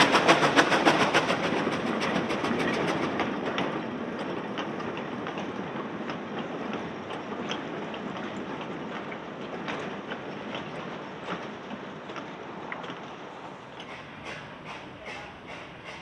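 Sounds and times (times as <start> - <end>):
steam locomotive exhaust beats: 0.0 - 11.5, 13.2 - 16.0
carriages rumbling on rails: 0.0 - 16.0
train wheel clicks: 0.0 - 16.0.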